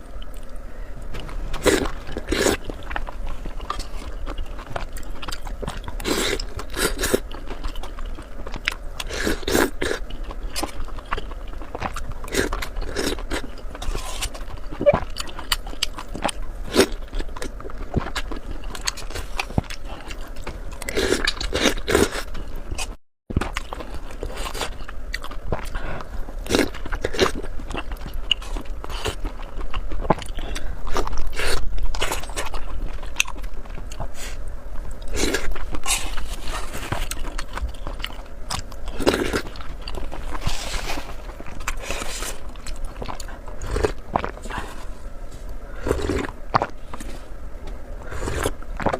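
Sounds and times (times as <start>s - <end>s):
person chewing food: 0.1s - 48.9s.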